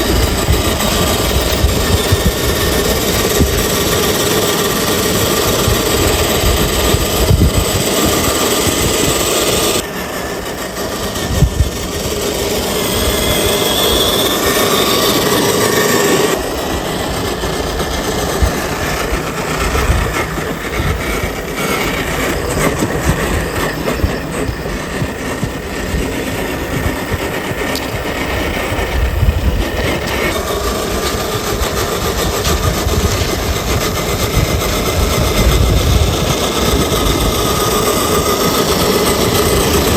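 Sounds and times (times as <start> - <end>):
toy car motor whining: 0.0 - 39.9.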